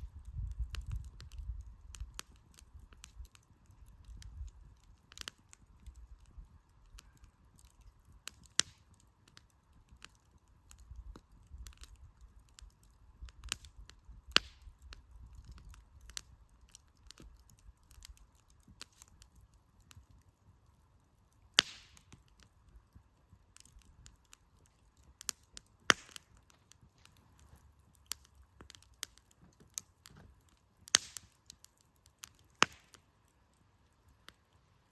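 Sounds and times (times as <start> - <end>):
firewood popping: 0.0 - 34.9
wood fire crackling: 0.0 - 34.9.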